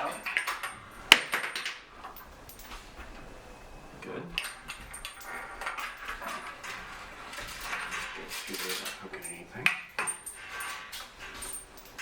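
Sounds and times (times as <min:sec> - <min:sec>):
loom parts clinking and rattling: 0:00.0 - 0:02.8, 0:04.4 - 0:12.0.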